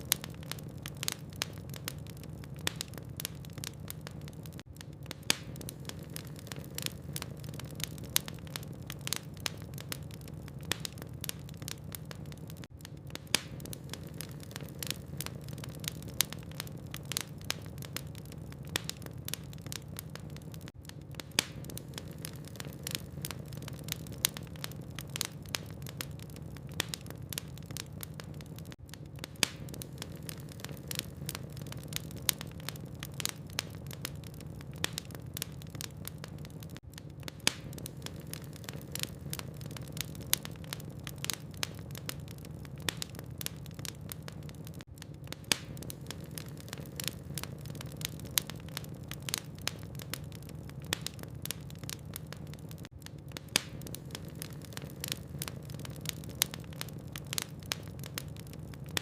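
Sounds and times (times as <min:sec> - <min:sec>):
logs crackling in fireplace: 0:00.0 - 0:59.0.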